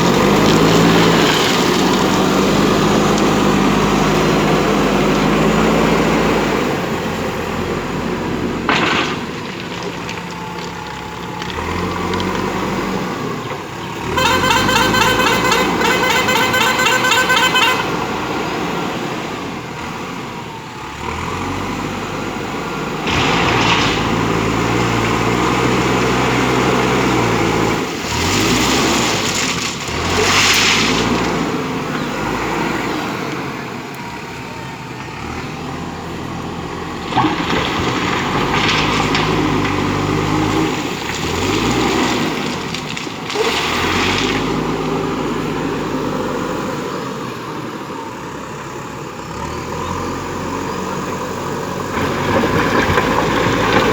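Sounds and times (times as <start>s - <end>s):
diesel engine revving under load: 0.0s - 53.9s.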